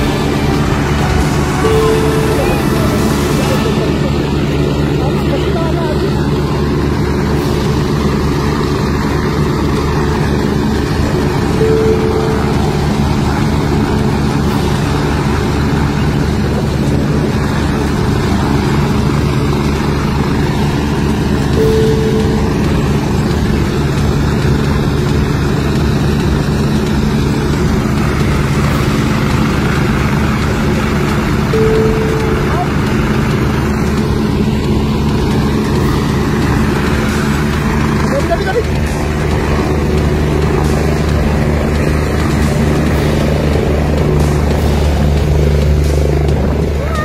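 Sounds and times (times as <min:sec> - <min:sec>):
helicopter engine and rotor: 0:00.0 - 0:47.0.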